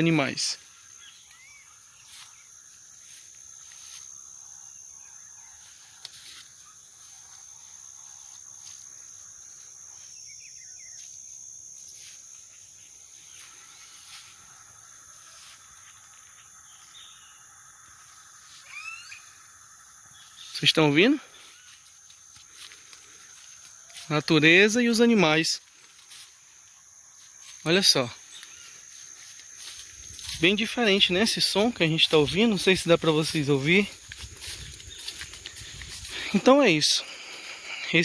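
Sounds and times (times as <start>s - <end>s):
insects droning with pulses: 0.0s - 38.0s
lower steady insect tone: 0.0s - 38.0s
short rising insect calls: 0.0s - 38.0s.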